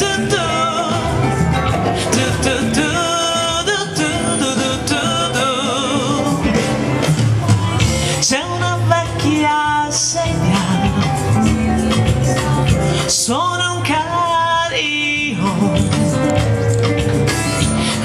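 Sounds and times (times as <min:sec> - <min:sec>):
woman singing with vibrato: 0:00.0 - 0:06.7, 0:07.4 - 0:16.1
instrumental backing with bass line: 0:00.0 - 0:18.0.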